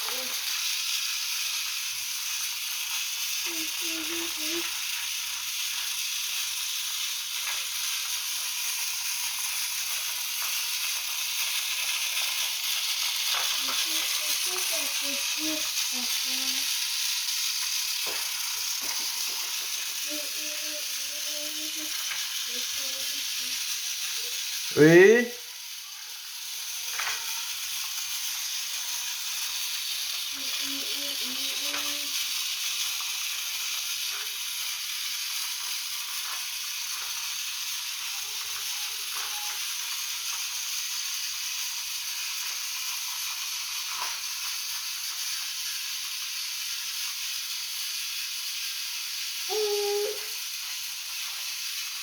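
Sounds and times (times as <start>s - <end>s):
toy train whirring on track: 0.0s - 52.0s.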